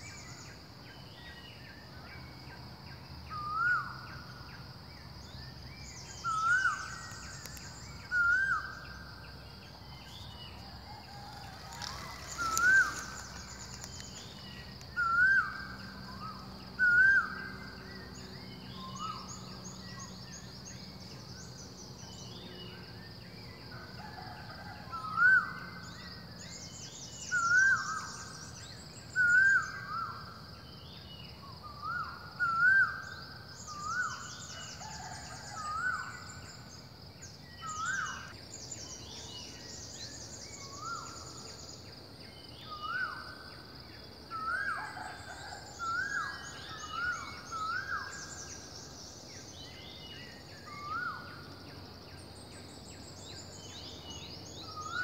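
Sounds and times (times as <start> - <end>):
high insect drone: 0.0 - 55.0
small birds twittering: 0.0 - 55.0.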